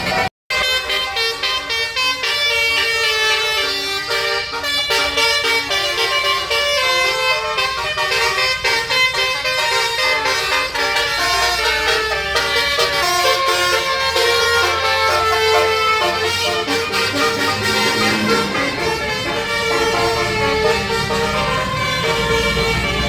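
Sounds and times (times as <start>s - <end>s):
musical air horn melody: 0.0s - 23.0s.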